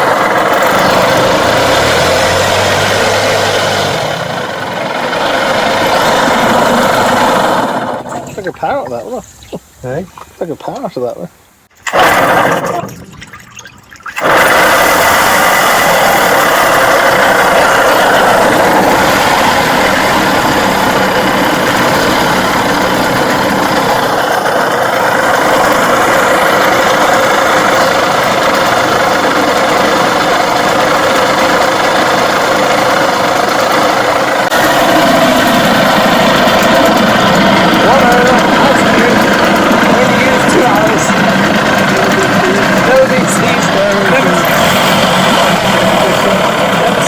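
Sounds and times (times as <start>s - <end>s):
noisy worn bearings: 0.0s - 9.0s, 11.8s - 47.0s
outboard motor running: 0.0s - 47.0s.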